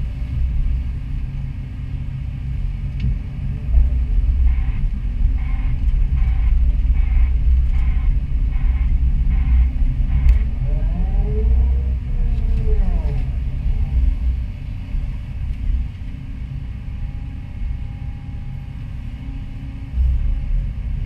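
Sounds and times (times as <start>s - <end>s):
excavator engine rumbling: 0.0s - 21.0s.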